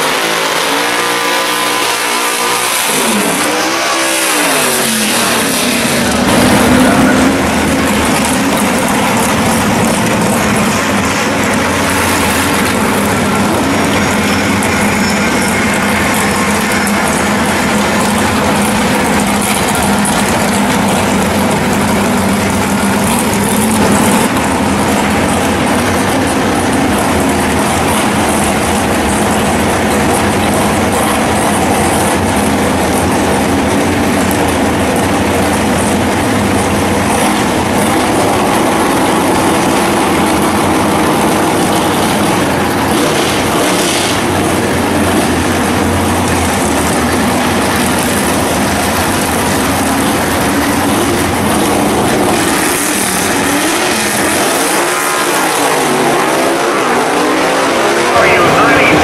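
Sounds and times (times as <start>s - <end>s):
car engine idling loudly: 0.0s - 59.0s.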